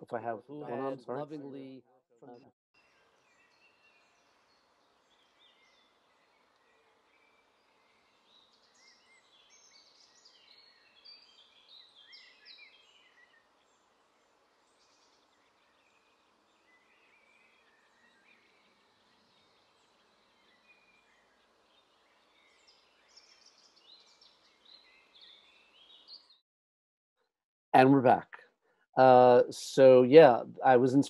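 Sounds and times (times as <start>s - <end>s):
small birds chirping and trilling: 0.0s - 26.4s.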